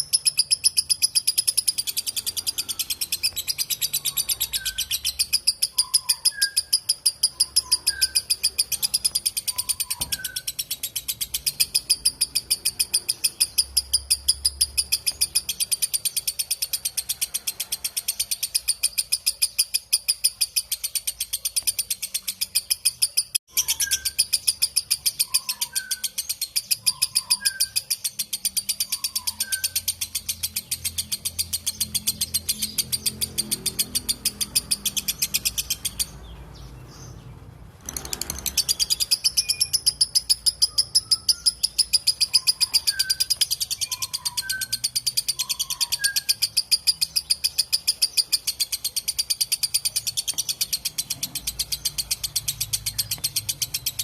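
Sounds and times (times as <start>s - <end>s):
lovebird chattering calls: 0.0s - 37.2s, 37.8s - 54.0s
faint bird chirps: 0.0s - 37.3s, 37.9s - 54.0s.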